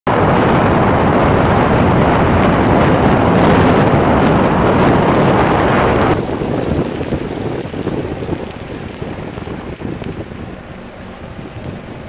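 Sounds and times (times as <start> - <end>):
rain: 0.1 - 12.0
wind on microphone: 0.1 - 12.0.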